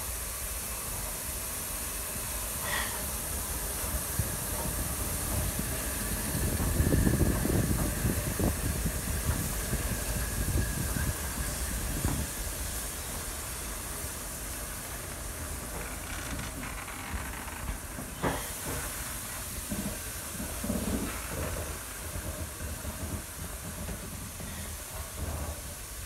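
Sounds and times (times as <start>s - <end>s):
steam locomotive hissing: 0.0s - 17.0s, 17.6s - 26.0s.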